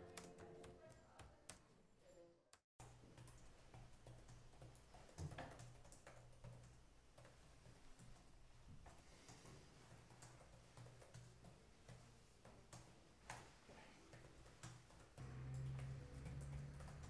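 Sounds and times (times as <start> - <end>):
laptop keyboard typing: 2.8 - 17.0.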